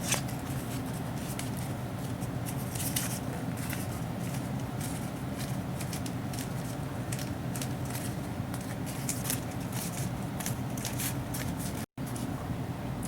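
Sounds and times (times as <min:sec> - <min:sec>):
cardboard crinkling: 0:00.0 - 0:11.9
low room hum: 0:00.0 - 0:13.0.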